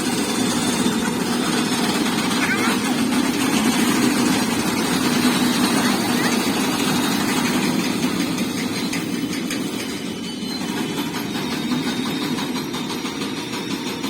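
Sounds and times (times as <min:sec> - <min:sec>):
large engine running: 0:00.0 - 0:14.0.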